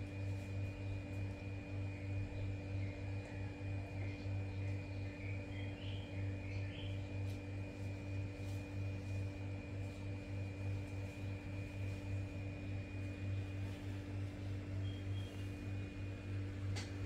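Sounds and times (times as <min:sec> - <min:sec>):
pulsing machine hum: 0:00.1 - 0:17.0.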